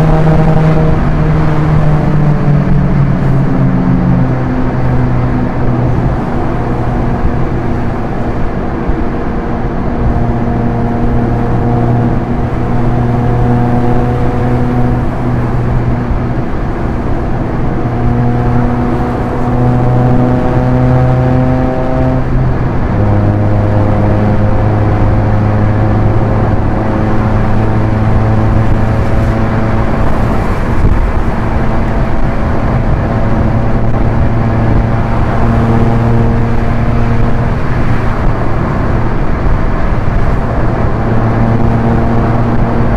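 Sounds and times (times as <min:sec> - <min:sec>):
car engine accelerating: 0:00.0 - 0:42.9
wind noise: 0:00.0 - 0:42.9.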